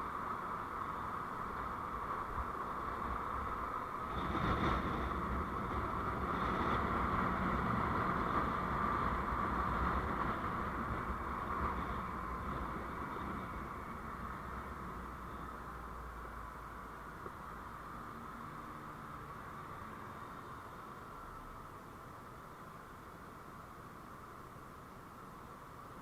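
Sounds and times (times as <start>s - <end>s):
engine hum: 0.0s - 22.3s
road rumble: 0.0s - 26.0s.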